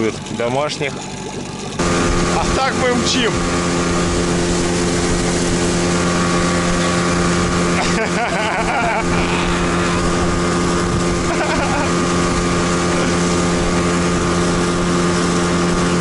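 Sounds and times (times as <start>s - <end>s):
outboard motor running: 0.0s - 16.0s
water rushing past: 0.0s - 16.0s.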